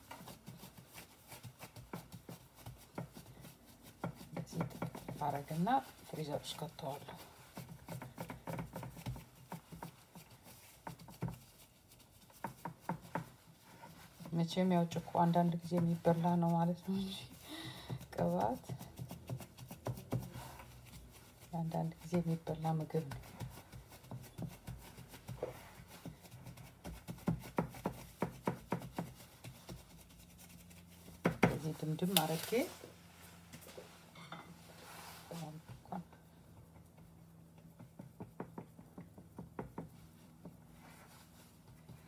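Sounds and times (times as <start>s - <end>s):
hand patting crumbly dough: 0.0s - 34.1s, 34.7s - 42.0s.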